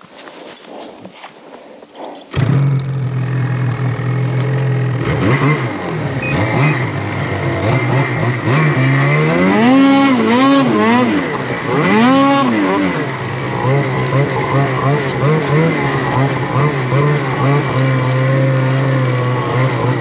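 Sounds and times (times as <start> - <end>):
snowmobile engine idling and revving: 0.0 - 20.0.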